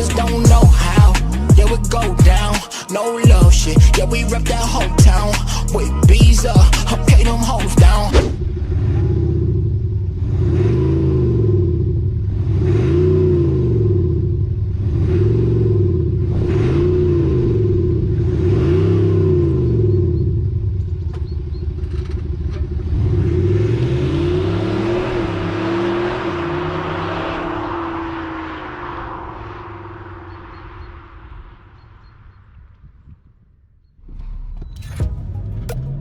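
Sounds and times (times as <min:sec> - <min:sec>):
diesel engine revving: 0:00.0 - 0:31.8, 0:34.0 - 0:36.0.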